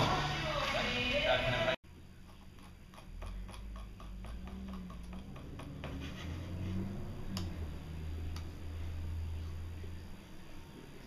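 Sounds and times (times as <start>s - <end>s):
low steady hum: 1.8s - 11.0s.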